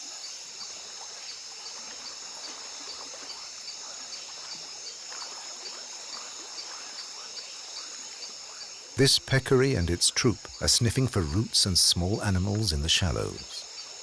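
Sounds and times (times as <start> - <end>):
insect chirping: 0.0 - 14.0
insect chorus drone: 0.0 - 14.0.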